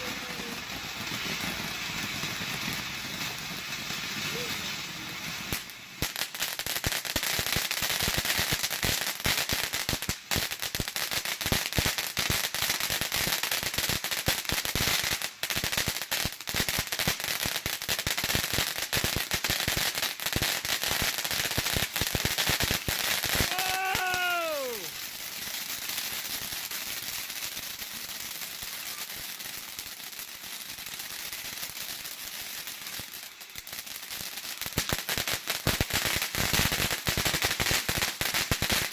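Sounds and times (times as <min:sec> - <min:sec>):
firework fountain hissing: 0:00.0 - 0:38.9
rapid firework crackling: 0:00.0 - 0:38.9.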